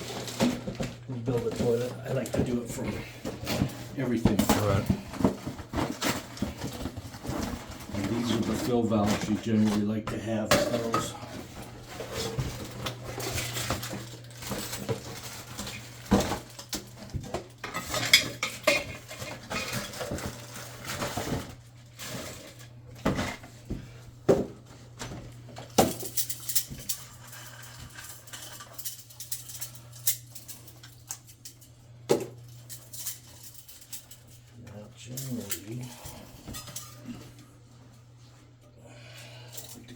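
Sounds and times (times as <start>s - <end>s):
plastic and metal parts clattering: 0.0s - 37.4s.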